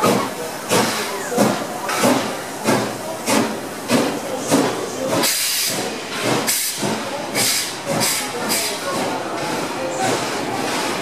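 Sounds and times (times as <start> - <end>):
steam hissing: 0.0 - 11.0
steam locomotive exhaust chuffing: 0.0 - 11.0.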